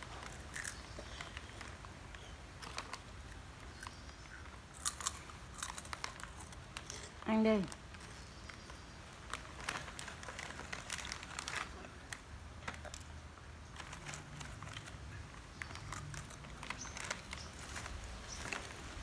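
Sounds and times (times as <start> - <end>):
plastic snack packet crinkling: 0.0 - 19.0.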